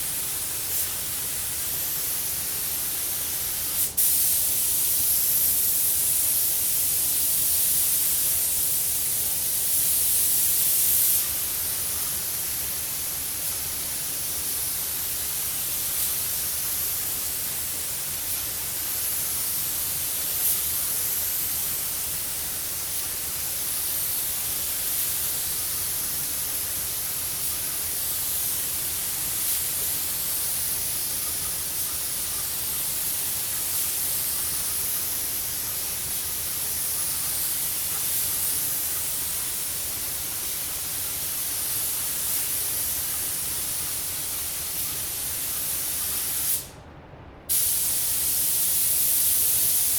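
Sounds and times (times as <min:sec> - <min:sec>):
spray gun hissing: 0:00.0 - 0:46.8, 0:47.5 - 0:49.9.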